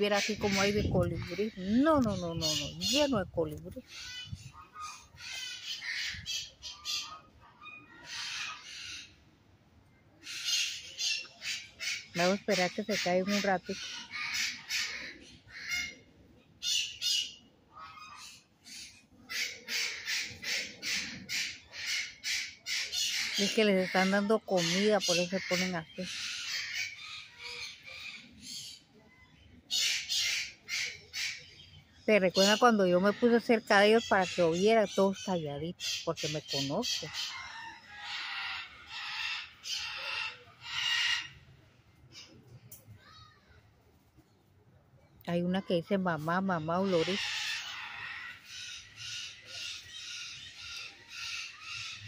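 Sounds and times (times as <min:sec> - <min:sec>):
parrots squawking and screeching: 0:00.0 - 0:03.2, 0:03.9 - 0:09.1, 0:10.2 - 0:16.0, 0:16.6 - 0:28.8, 0:29.7 - 0:31.7, 0:32.4 - 0:42.4, 0:46.6 - 0:52.0.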